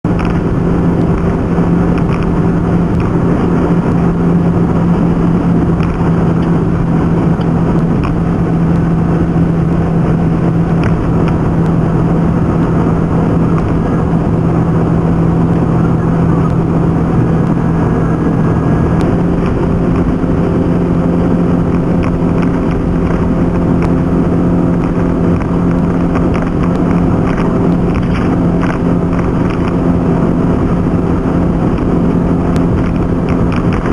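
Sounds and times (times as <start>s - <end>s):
car engine hum: 0.0s - 33.9s
road and wind noise: 0.0s - 33.9s.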